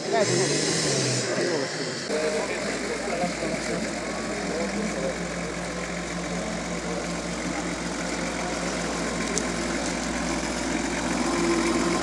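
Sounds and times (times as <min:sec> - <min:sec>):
off-road vehicle engine at low revs: 0:00.0 - 0:12.0.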